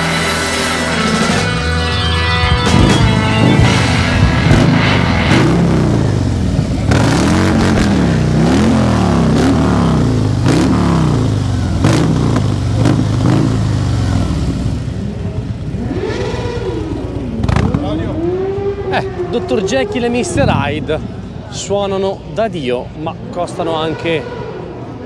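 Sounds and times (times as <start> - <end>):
motorcycle engine revving: 0.0 - 21.5, 22.8 - 25.0.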